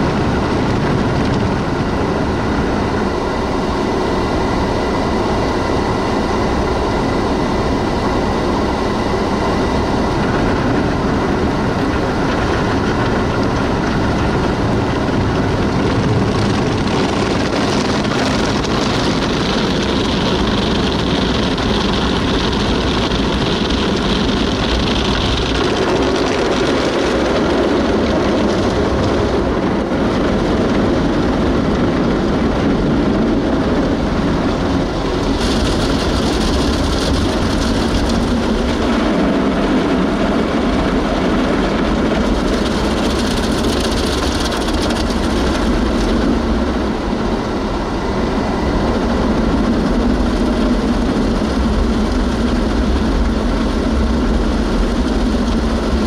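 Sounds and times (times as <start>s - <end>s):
car wash machine rushing: 0.0s - 56.0s.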